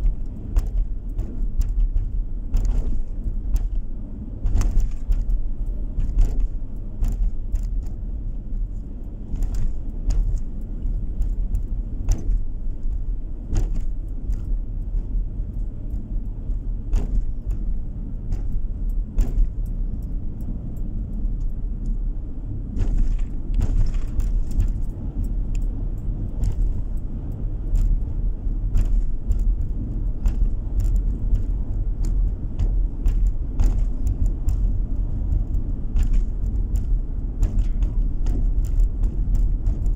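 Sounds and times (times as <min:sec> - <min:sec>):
car road and engine rumble: 0:00.0 - 0:39.9
light clicks and rattles: 0:00.0 - 0:39.9.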